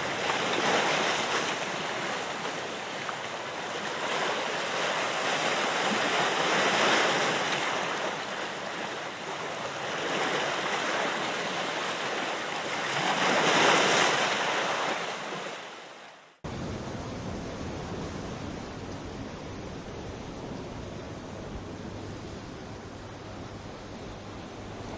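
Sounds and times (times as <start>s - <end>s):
waves washing on shore: 0.0s - 24.9s.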